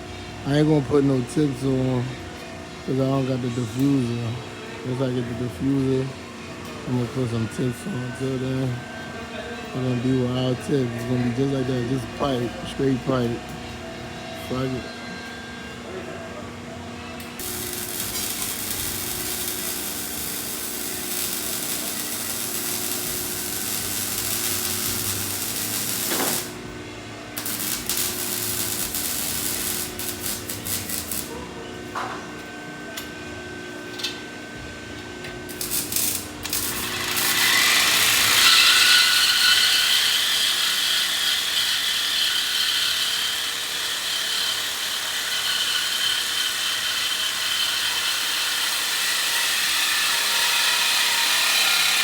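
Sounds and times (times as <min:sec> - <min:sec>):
power tools on metal exhaust: 0:02.8 - 0:14.9, 0:17.2 - 0:32.2, 0:35.2 - 0:52.0.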